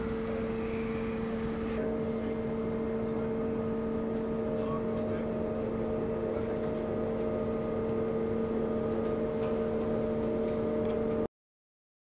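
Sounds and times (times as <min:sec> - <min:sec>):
ship machinery humming: 0:00.0 - 0:11.3.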